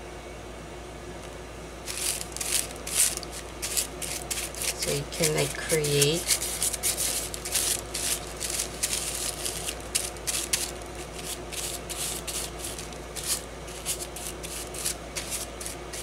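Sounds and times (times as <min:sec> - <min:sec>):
paintbrush strokes on paper: 0:01.9 - 0:16.0.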